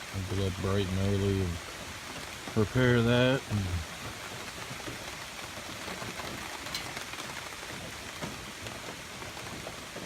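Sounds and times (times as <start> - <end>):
faint drips and taps: 0.0 - 10.0
rain falling: 0.0 - 10.0.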